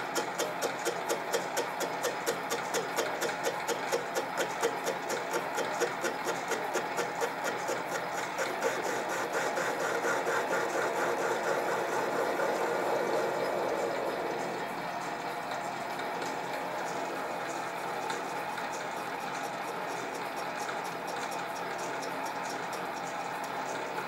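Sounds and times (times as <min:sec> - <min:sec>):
lathe running and cutting: 0:00.0 - 0:24.0
regular ticking of lathe chuck: 0:00.0 - 0:24.0.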